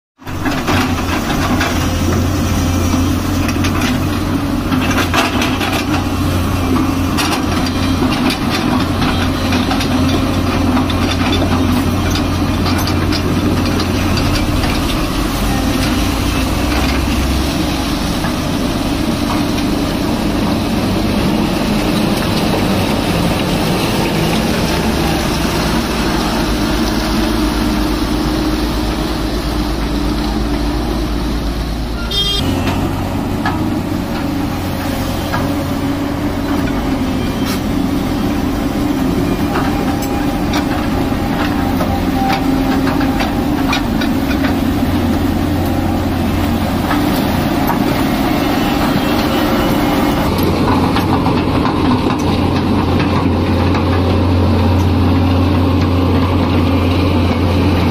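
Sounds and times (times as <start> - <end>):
diesel excavator engine hum: 0.2 - 57.9.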